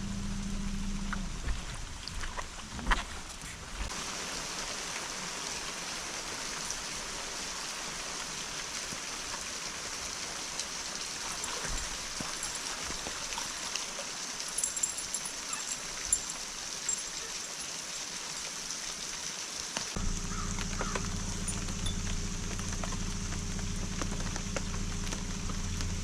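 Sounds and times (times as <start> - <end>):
hiss of moving water: 3.5 - 26.0.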